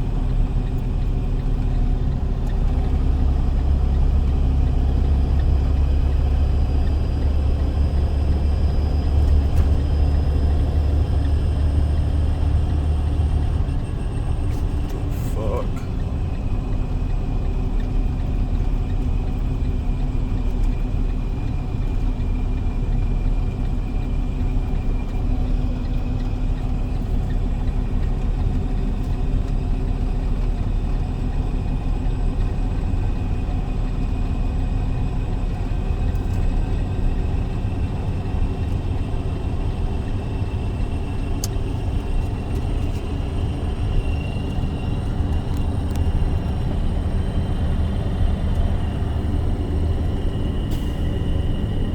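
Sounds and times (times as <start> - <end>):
truck engine and road rumble: 0.0 - 51.9.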